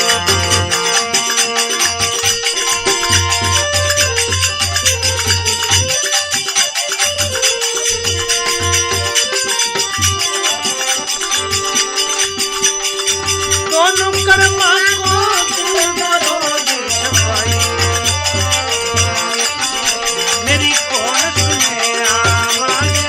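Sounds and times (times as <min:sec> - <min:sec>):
jingling percussion rhythm: 0:00.0 - 0:23.0
melody instrument holding notes: 0:00.0 - 0:23.0.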